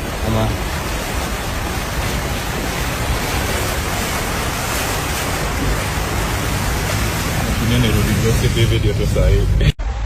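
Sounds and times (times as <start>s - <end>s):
rushing water: 0.0s - 9.8s.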